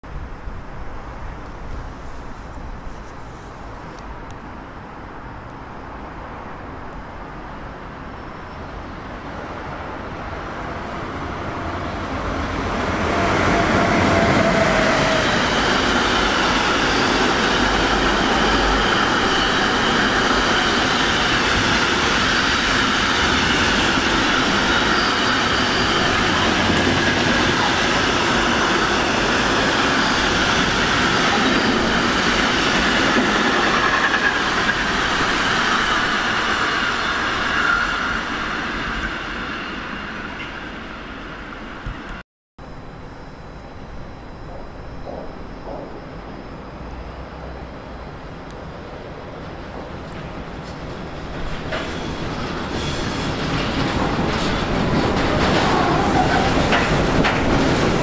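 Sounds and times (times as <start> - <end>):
train passing: 0.1 - 58.0.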